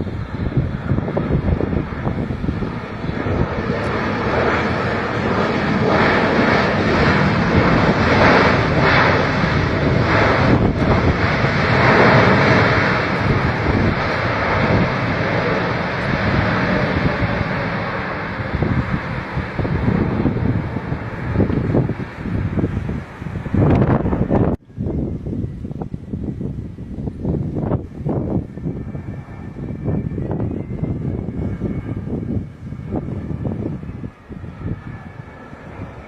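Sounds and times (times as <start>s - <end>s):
jet airliner passing: 0.0s - 36.0s.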